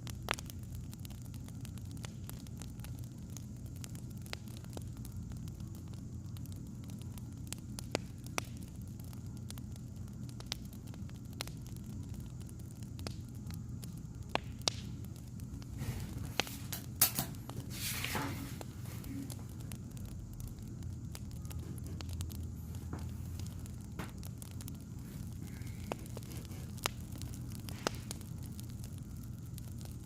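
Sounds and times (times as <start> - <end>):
fire pops and snaps: 0.0 - 30.0
wood fire crackling: 0.0 - 30.0.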